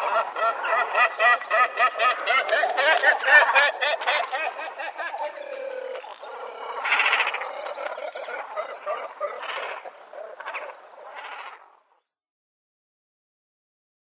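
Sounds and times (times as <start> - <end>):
chuckling croaking animal calls: 0.0 - 11.9.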